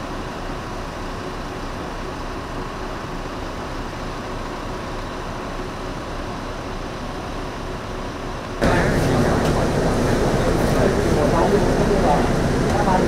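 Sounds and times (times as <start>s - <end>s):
bus running noise: 0.0s - 13.0s
faint constant hum: 0.0s - 13.0s.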